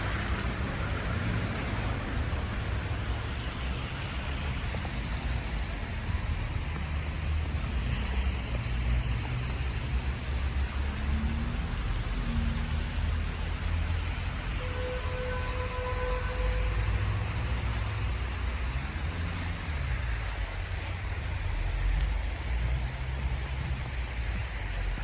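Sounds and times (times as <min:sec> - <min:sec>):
low traffic rumble: 0:00.0 - 0:25.0.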